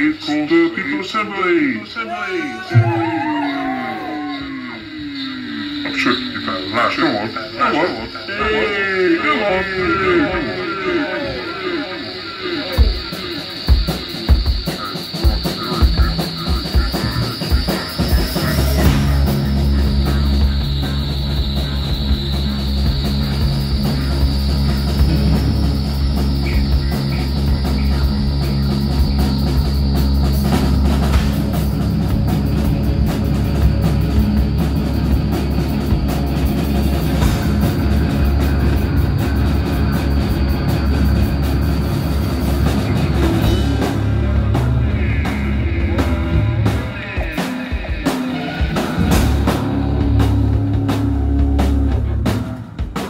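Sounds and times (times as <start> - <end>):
loud rock band playing: 2.4 - 53.0.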